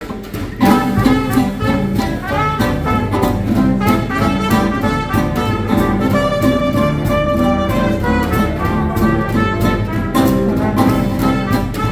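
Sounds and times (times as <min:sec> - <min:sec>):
swing jazz band playing: 0:00.0 - 0:11.9.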